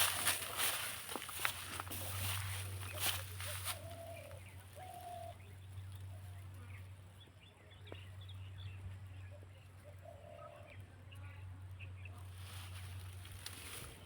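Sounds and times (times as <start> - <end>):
faint bird calls and chirps: 0.0 - 14.0.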